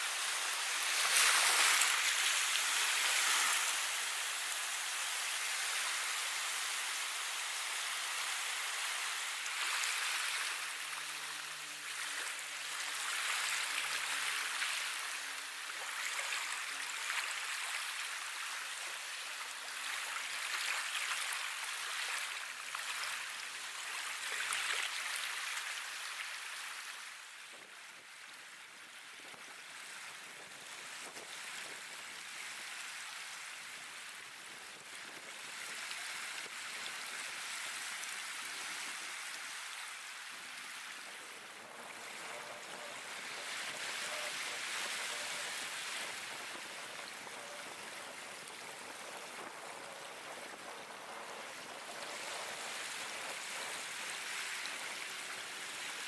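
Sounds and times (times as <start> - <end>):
small waves lapping on sandy beach: 0.0 - 56.0.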